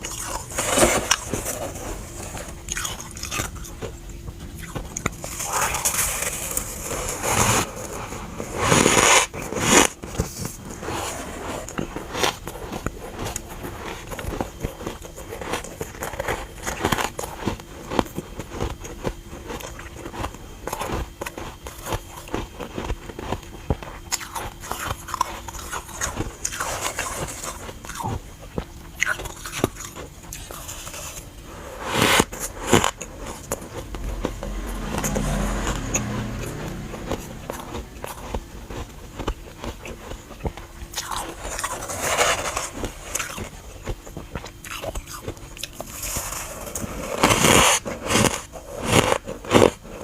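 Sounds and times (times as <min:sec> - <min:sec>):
frost being bitten and chewed: 0:00.0 - 0:07.9, 0:11.6 - 0:31.4, 0:32.0 - 0:50.0.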